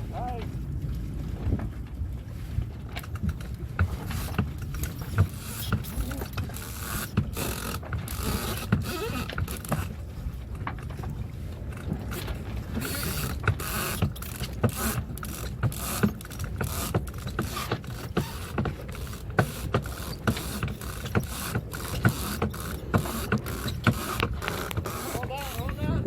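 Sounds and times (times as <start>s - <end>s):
winch ratcheting with sharp clicks: 2.9s - 10.0s, 11.7s - 25.8s.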